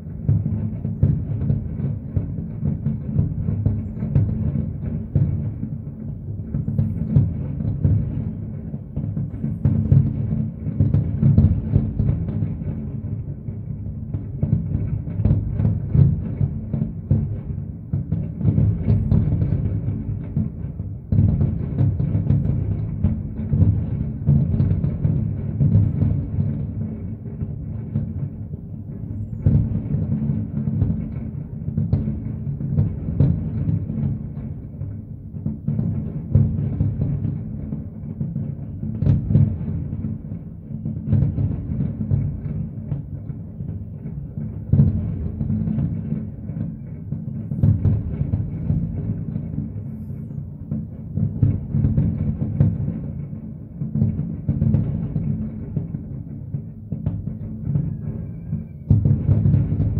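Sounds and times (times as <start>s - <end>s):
deep fireworks booms: 0.0s - 59.9s
sharp fireworks bangs: 0.0s - 59.9s.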